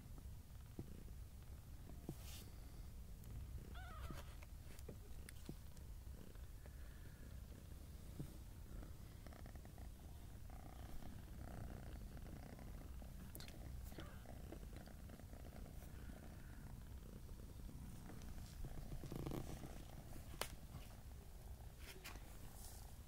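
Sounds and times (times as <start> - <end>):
cat purring: 0.6 - 4.1, 4.9 - 23.0.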